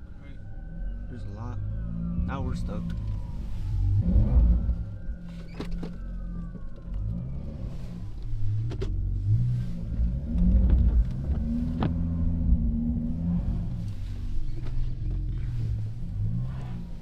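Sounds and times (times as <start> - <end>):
car engine running: 1.4 - 17.0.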